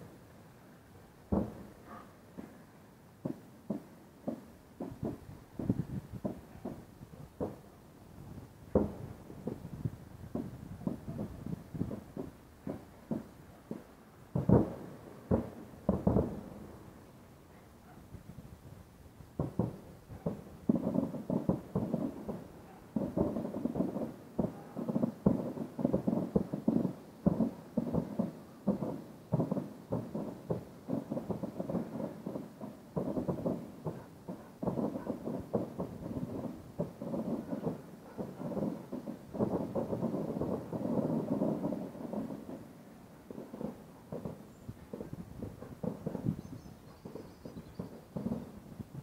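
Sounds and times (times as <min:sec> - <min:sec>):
dull firework bangs: 0:01.3 - 0:02.6, 0:03.2 - 0:07.7, 0:08.7 - 0:16.7, 0:19.4 - 0:49.0
fireworks booming: 0:01.3 - 0:17.0, 0:19.4 - 0:49.0.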